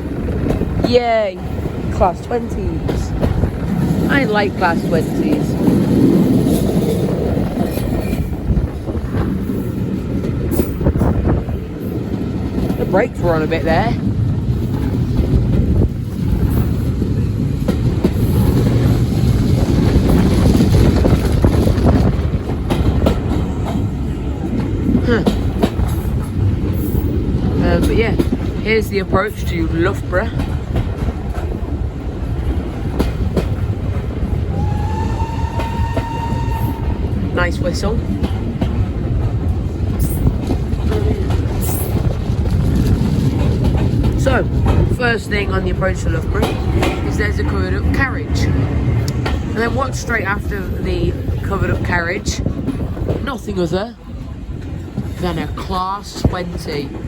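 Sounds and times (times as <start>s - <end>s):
railway carriage rumbling: 0.0s - 57.0s
wheels clicking over rail joints: 0.0s - 57.0s.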